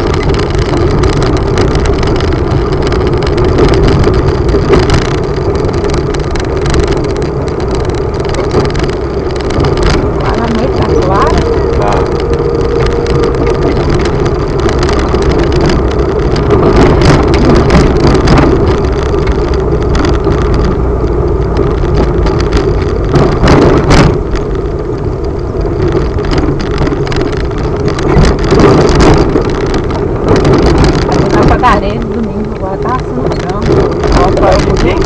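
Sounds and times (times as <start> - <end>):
knocks and jolts on bumpy road: 0.0 - 35.0
vehicle engine running: 0.0 - 35.0.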